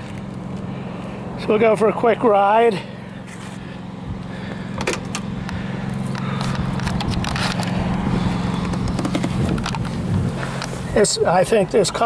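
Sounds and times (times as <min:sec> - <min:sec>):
car engine running low revs: 0:00.0 - 0:12.0.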